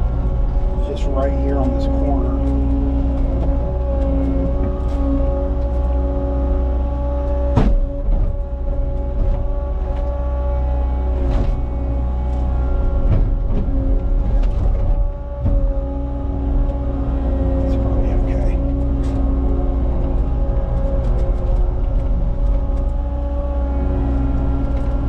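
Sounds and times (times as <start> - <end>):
diesel engine running with whine: 0.0 - 25.0.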